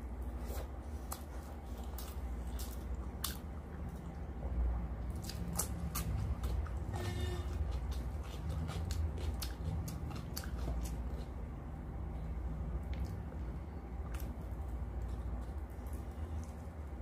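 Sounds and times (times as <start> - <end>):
low steady hum: 0.0 - 17.0
chewing food: 0.2 - 17.0.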